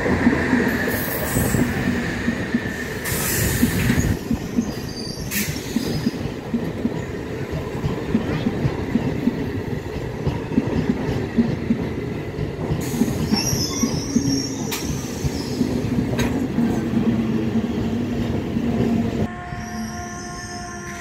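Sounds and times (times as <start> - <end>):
train wheels rumbling over rails: 0.0 - 19.3.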